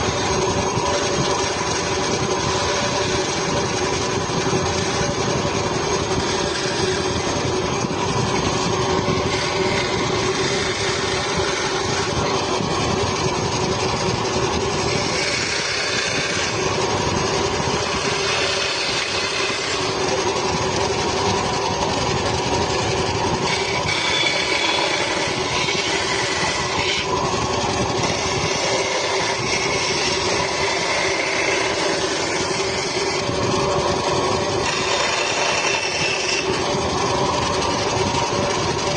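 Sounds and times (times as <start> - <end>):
power tool motor humming: 0.0 - 38.9.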